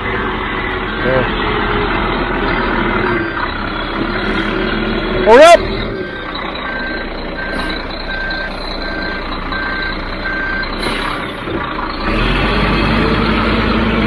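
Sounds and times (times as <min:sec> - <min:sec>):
reversing alarm beeping: 0:00.0 - 0:12.3
diesel engine running: 0:00.0 - 0:14.0.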